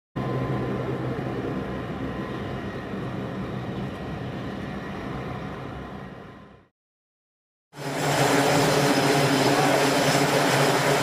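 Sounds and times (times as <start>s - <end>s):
turboprop engines droning in flight: 0.2s - 6.7s, 7.7s - 11.0s.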